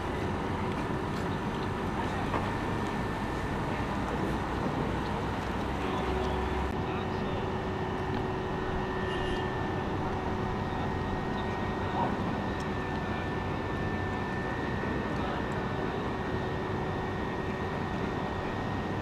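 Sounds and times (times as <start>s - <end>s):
crane machinery drone: 0.0s - 19.0s
faint steady whine: 0.0s - 19.0s.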